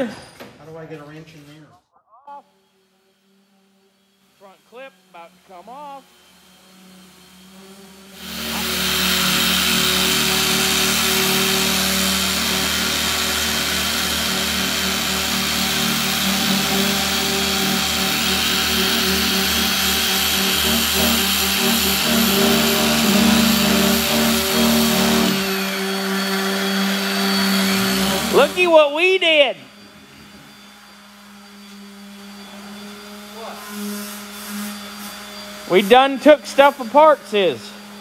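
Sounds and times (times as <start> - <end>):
machine hissing and whining: 2.5 - 38.0.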